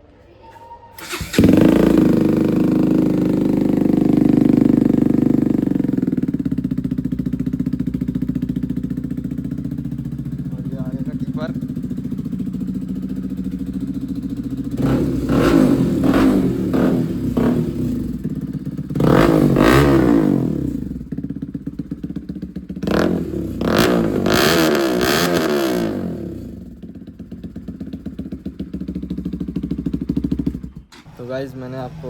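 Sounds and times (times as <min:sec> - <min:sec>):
motorcycle engine idling and revving: 0:01.0 - 0:32.0.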